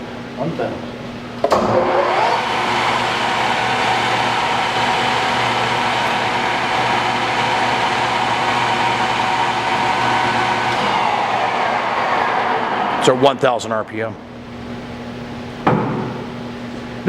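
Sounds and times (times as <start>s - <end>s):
lathe gear whine and hum: 1.4s - 15.6s.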